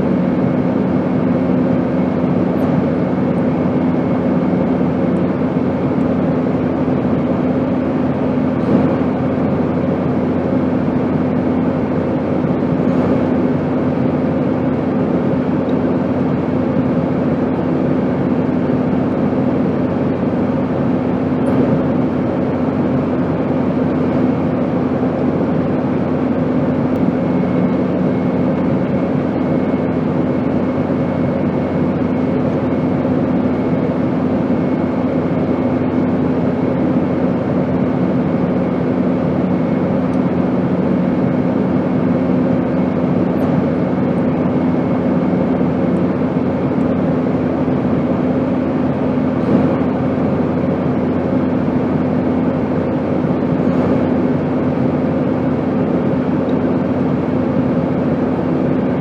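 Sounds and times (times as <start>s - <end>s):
airplane engine drone: 0.0s - 59.0s.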